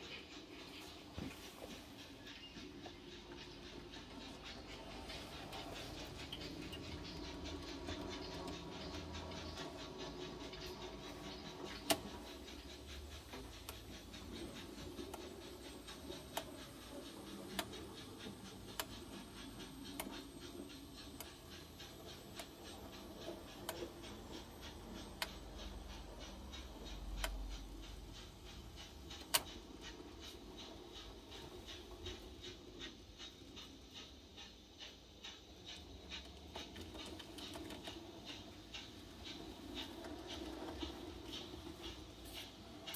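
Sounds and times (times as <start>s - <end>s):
light ticks: 0.1s - 42.9s.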